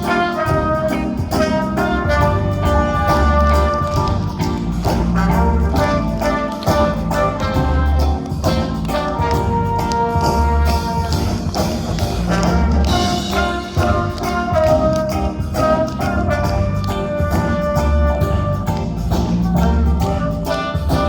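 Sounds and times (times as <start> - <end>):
brass sustained notes: 0.0 - 11.6, 12.2 - 21.0
live band playing pop: 0.0 - 21.0.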